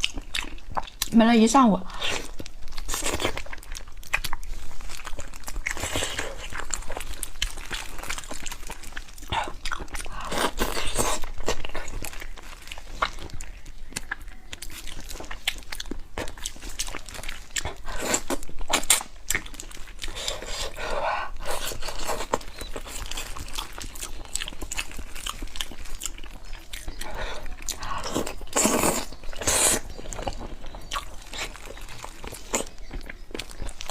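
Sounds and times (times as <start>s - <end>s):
person chewing food: 0.0s - 1.2s, 1.9s - 33.9s.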